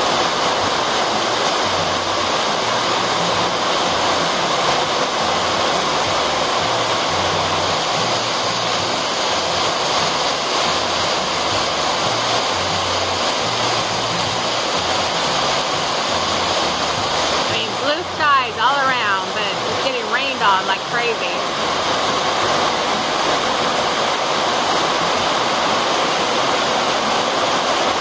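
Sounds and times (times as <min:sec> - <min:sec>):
heavy rain on a metal roof: 0:00.0 - 0:28.0.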